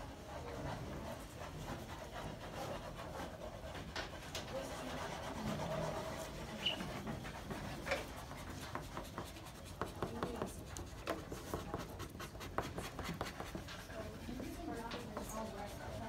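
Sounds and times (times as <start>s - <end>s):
chalk scratching on paper board: 0.0s - 16.0s.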